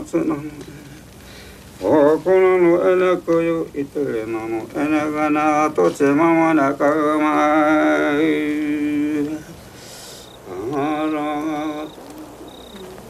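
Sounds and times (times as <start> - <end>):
person chanting held notes: 1.8 - 13.0.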